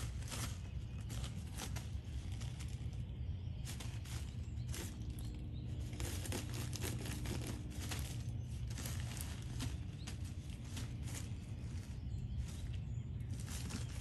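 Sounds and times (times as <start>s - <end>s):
paws scratching pine needles: 0.0s - 14.0s
plastic crinkling: 0.0s - 14.0s
steady low hum: 0.0s - 14.0s.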